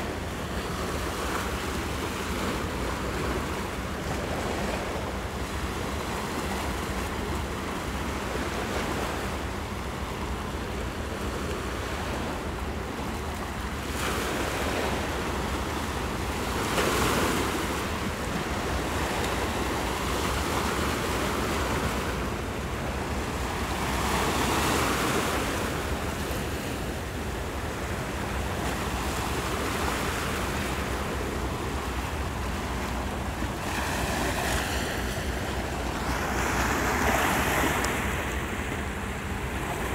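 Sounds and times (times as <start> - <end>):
waves washing over boulders: 0.0 - 39.9.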